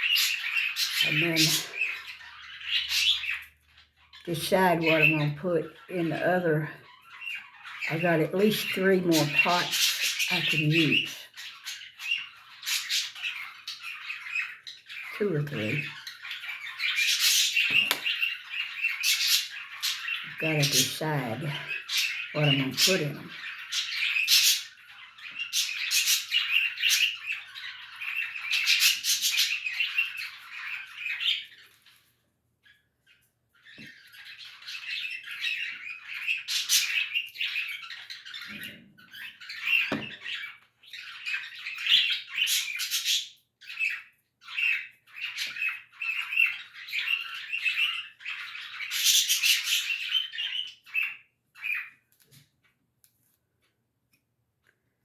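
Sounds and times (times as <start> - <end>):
birds chirping and squawking: 0.0 - 52.6.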